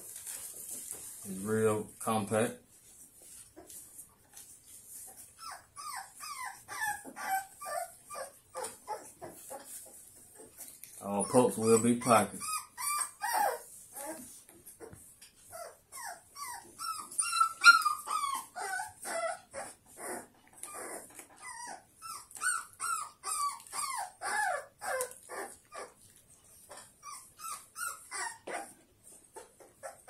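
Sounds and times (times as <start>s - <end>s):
puppy whimpering and crying: 5.0s - 30.0s.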